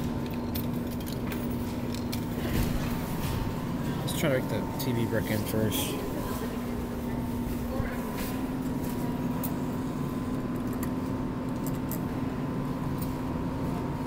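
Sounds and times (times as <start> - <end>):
claw machine hum and whir: 0.0 - 14.0.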